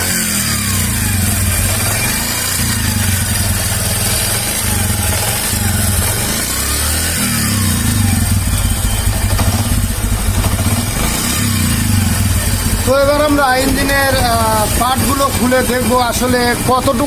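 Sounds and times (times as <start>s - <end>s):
motorcycle engine knocking: 0.0s - 17.0s.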